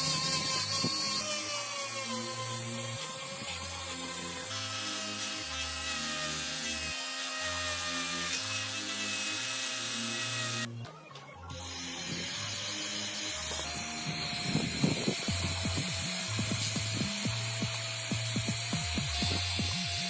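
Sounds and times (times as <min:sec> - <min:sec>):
background music: 0:00.0 - 0:20.0
rotary tool whining: 0:00.0 - 0:20.0.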